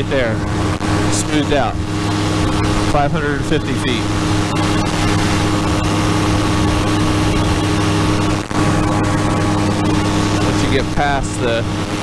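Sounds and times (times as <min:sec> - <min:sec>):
engine and propeller drone: 0:00.0 - 0:12.0.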